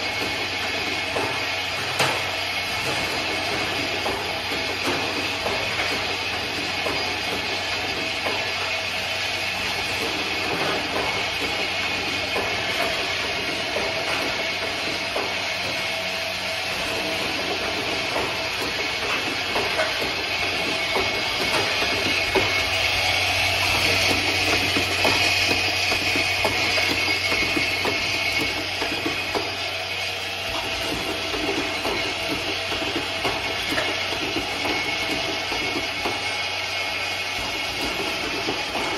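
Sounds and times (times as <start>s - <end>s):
steady machine noise: 0.0s - 38.9s.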